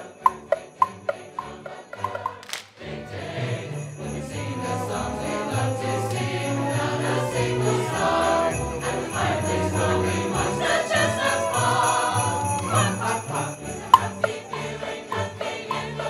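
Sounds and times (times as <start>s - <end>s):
sustained instrumental notes: 0.0s - 16.0s
sleigh bells shaking: 2.9s - 16.0s.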